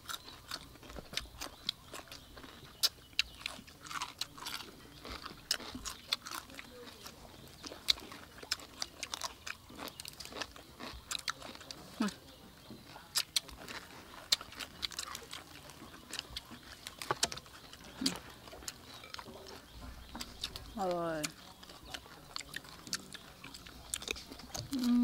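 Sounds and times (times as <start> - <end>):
crunching food: 0.0 - 25.0
people chewing: 0.0 - 25.0.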